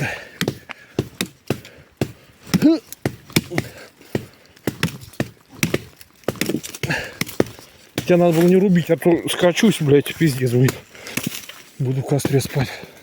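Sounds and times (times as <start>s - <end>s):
hatchet chopping wood: 0.0s - 8.6s, 10.4s - 11.5s, 12.1s - 12.8s.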